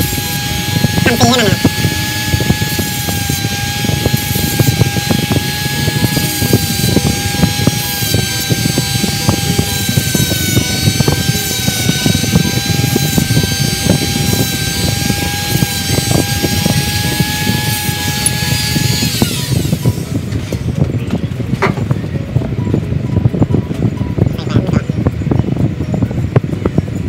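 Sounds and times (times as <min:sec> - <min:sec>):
motor drone with whine: 0:00.0 - 0:27.0.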